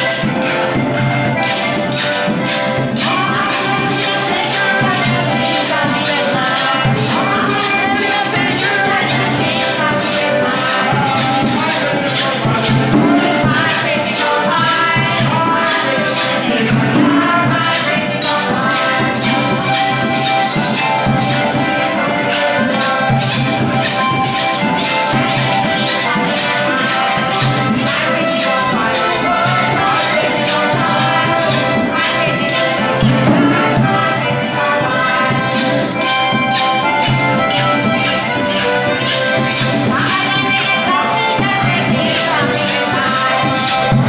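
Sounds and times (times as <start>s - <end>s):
button accordions playing: 0.0s - 44.0s
drum beat: 0.0s - 44.0s
hand saw scraped as percussion: 0.0s - 44.0s.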